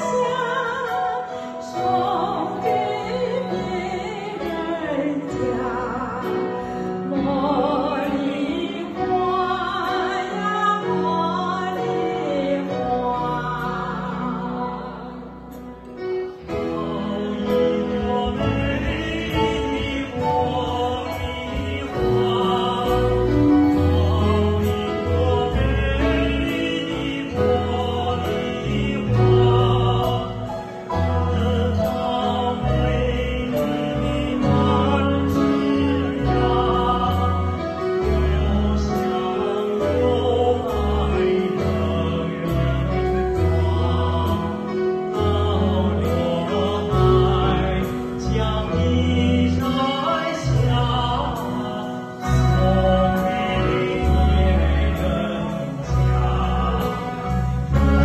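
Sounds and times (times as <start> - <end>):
live band playing: 0.0 - 58.0
man and woman singing a duet: 0.0 - 58.0
steady bass notes: 10.8 - 58.0.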